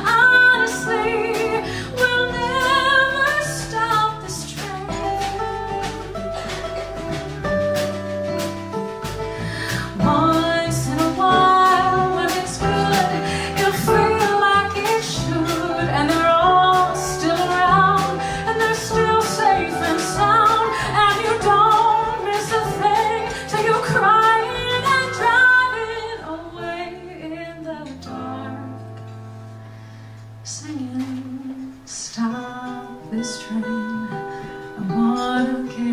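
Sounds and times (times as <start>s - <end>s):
woman singing pop ballad: 0.0s - 6.0s, 9.4s - 29.0s, 30.4s - 35.9s
instrumental accompaniment: 0.0s - 35.9s.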